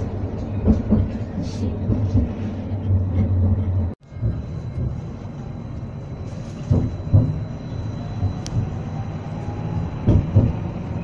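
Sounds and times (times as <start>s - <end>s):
tram hum and rumble: 0.0s - 11.0s.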